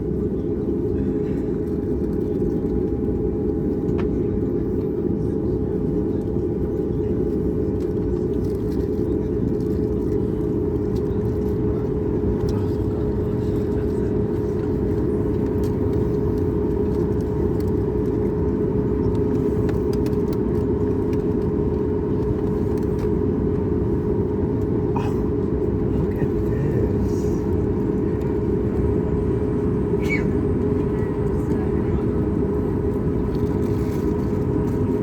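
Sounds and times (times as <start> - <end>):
aircraft cabin rumble: 0.0 - 35.0.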